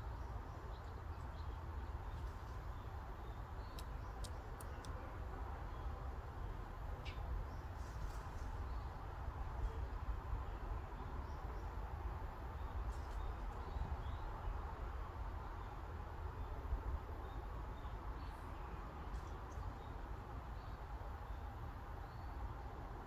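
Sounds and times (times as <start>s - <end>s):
steady breeze with low rumble: 0.0s - 23.0s.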